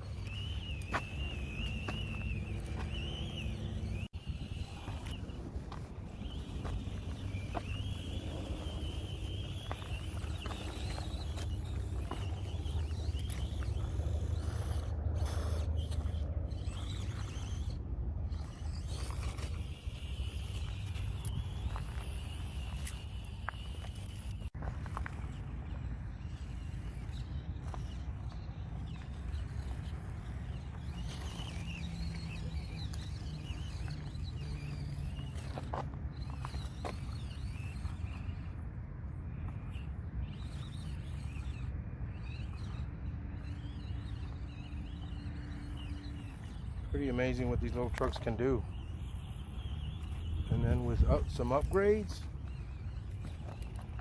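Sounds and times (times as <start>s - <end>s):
small electric motor whining: 0.0s - 54.0s
wind rumble on microphone: 0.0s - 54.0s.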